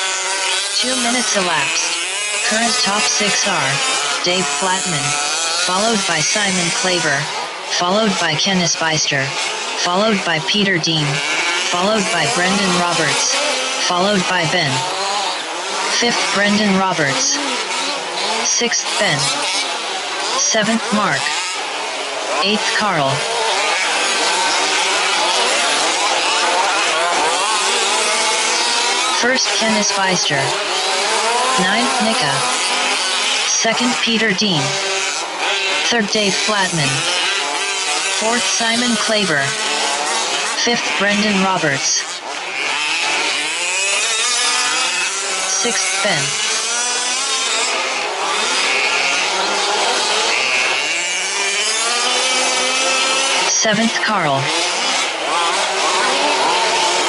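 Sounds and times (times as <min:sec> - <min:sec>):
rc truck engines revving: 0:00.0 - 0:57.0.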